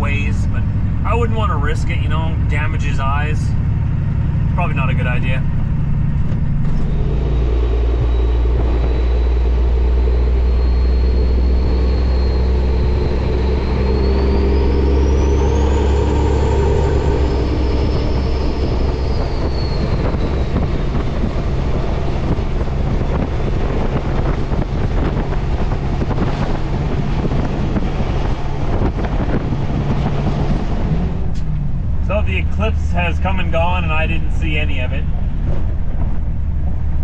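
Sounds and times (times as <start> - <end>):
high whine: 0.0 - 37.0
road noise: 0.0 - 37.0
truck diesel engine drone: 0.0 - 37.0.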